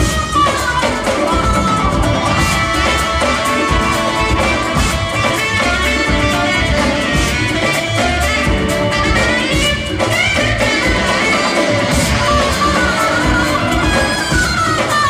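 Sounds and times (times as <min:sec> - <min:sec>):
drum kit: 0:00.0 - 0:15.0
electric guitars: 0:00.0 - 0:15.0
keyboards: 0:00.0 - 0:15.0
orchestra playing: 0:00.0 - 0:15.0.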